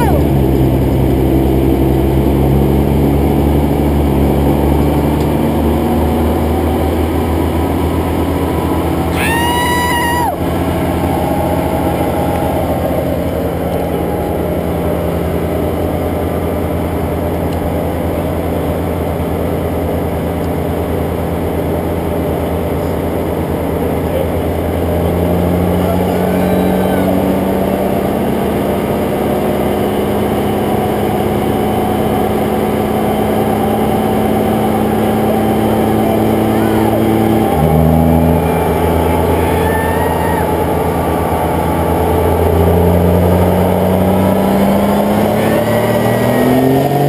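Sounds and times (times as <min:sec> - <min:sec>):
diesel engine drone: 0:00.0 - 0:47.0.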